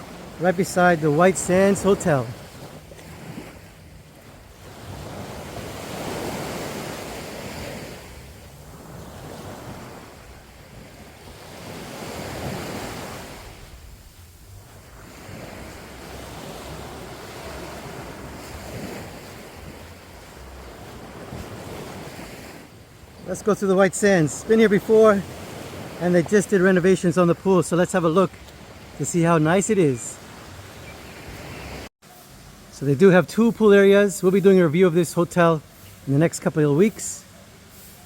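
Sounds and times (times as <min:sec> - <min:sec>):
sea waves washing on sand: 0:00.0 - 0:38.0.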